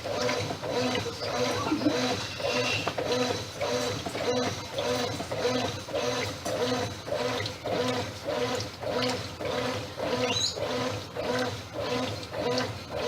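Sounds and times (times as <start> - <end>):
washing machine agitating: 0.0 - 13.0.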